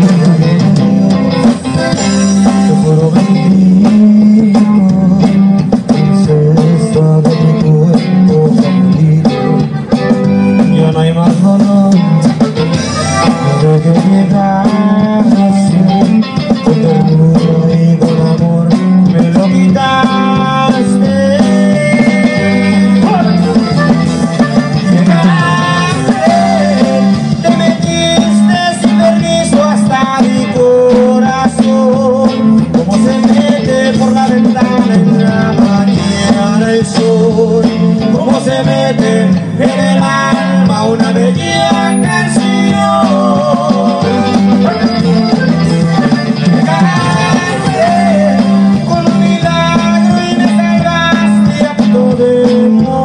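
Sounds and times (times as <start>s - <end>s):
button accordion melody: 0.0s - 4.4s, 7.6s - 17.6s, 18.3s - 53.0s
bass: 0.0s - 53.0s
congas: 0.0s - 53.0s
drums: 0.0s - 53.0s
guitar: 0.0s - 53.0s.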